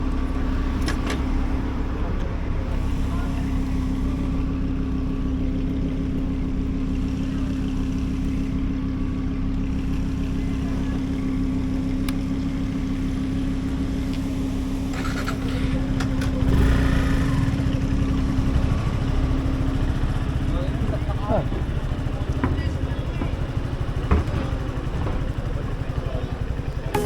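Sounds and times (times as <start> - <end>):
motorcycle engine humming: 0.0 - 27.0
road rumble: 0.0 - 27.0.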